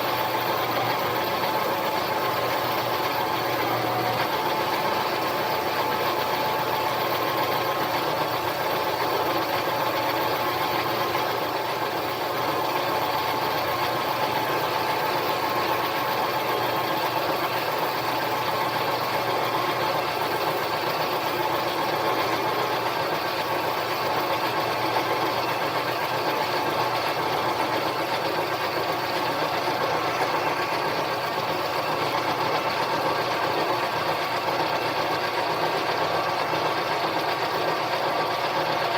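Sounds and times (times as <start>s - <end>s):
lathe running: 0.0s - 38.9s.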